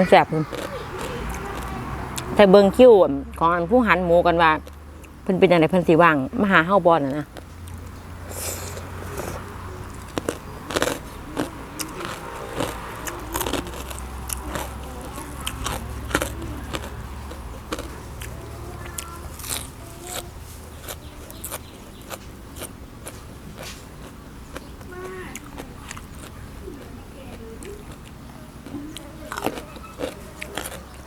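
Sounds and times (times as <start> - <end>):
person chewing and crunching food: 0.0 - 2.4, 4.6 - 5.2, 7.1 - 31.0.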